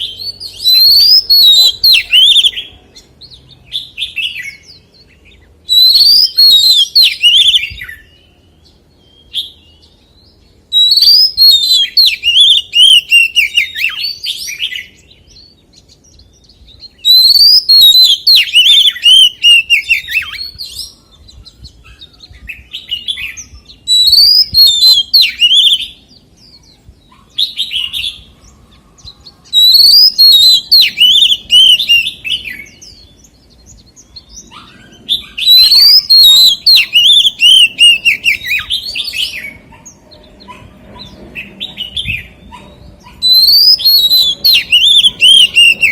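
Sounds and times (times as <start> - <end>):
bird singing whistled phrases: 0.0 - 39.8, 40.5 - 45.9.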